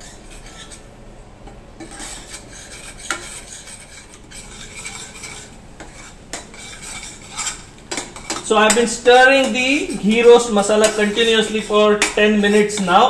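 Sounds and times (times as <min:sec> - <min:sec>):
spoon scraping steel pan: 0:00.0 - 0:00.9, 0:01.8 - 0:13.0.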